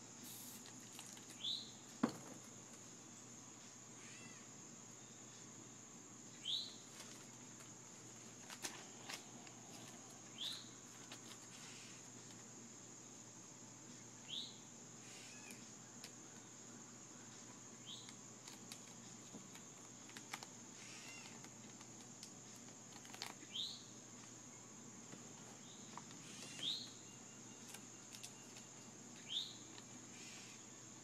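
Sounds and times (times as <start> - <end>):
steady high-pitched hiss: 0.0 - 31.0.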